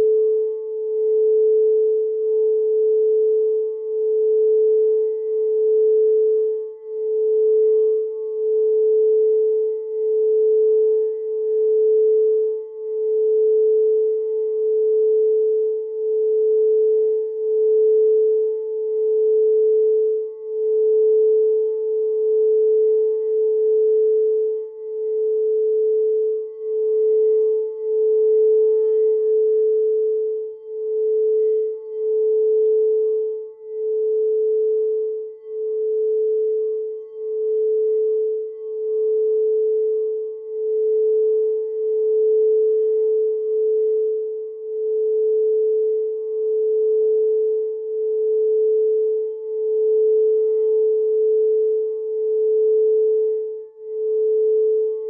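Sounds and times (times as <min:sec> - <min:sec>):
singing bowl sustained tone: 0:00.0 - 0:55.0.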